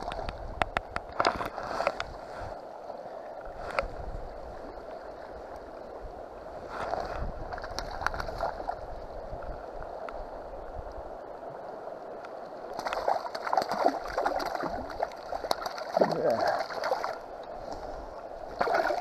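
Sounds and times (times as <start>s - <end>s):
river water lapping and gurgling: 0.0s - 19.0s.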